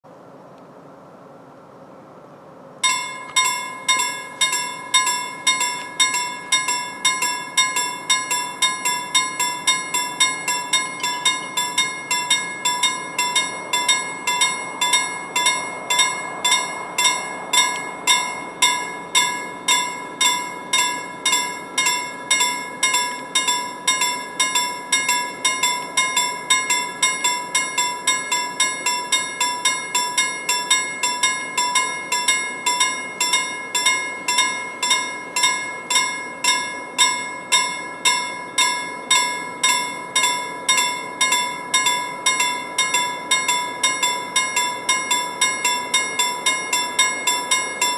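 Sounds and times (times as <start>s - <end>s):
level crossing warning bell: 2.8s - 47.9s.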